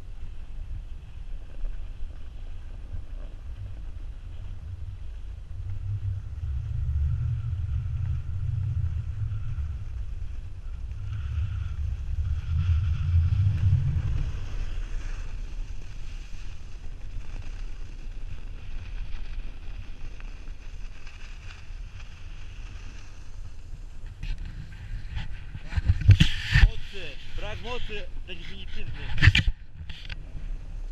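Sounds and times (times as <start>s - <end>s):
snowboard sliding on snow: 0.3s - 29.3s
wind buffeting microphone: 2.3s - 30.9s.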